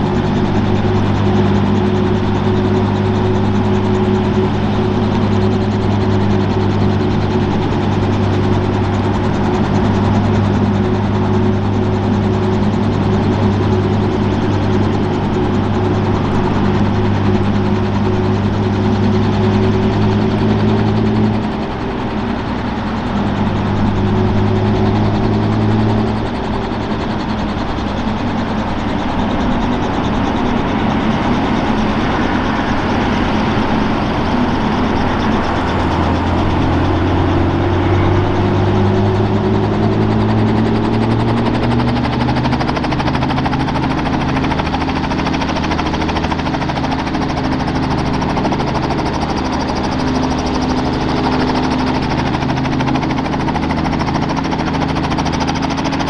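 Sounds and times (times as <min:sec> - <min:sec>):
helicopter engine running: 0:00.0 - 0:56.0.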